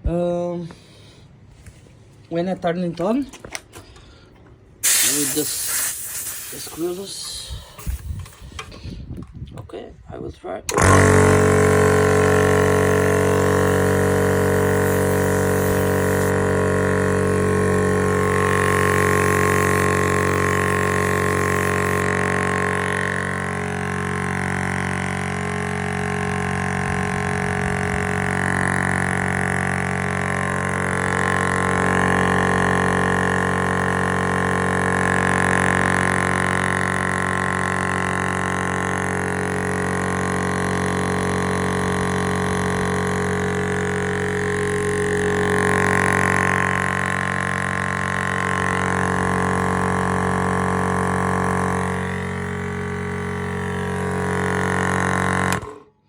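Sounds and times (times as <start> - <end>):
air compressor humming: 0.0 - 9.2, 10.7 - 56.0.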